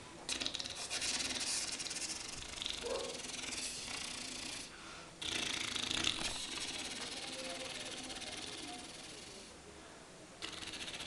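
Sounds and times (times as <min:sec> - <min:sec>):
man hissing like a rattlesnake: 0:00.3 - 0:09.5, 0:10.4 - 0:11.0.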